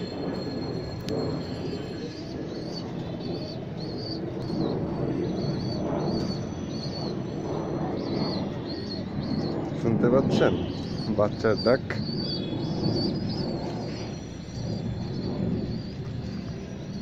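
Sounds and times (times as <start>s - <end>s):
baby bird peeping: 0.0s - 17.0s
pigeons cooing: 0.0s - 17.0s.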